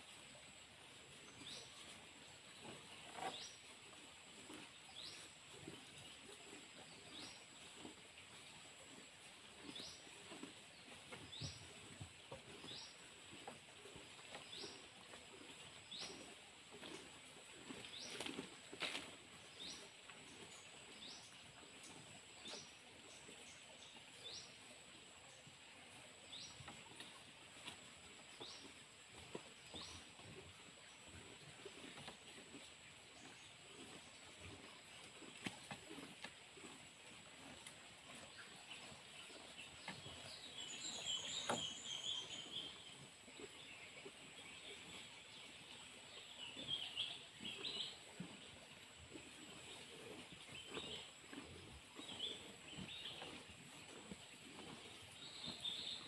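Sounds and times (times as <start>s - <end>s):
cows munching grass: 0.0s - 56.0s.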